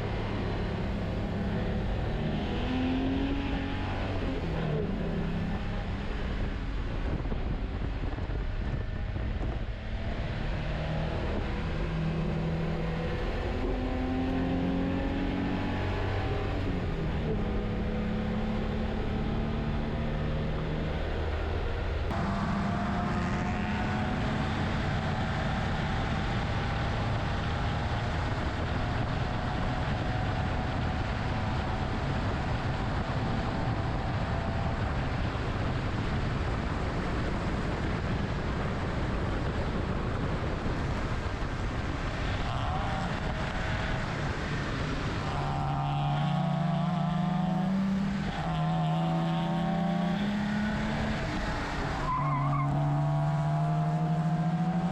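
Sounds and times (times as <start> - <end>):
car engine running hard: 0.0 - 54.9
road and wind noise: 0.0 - 54.9.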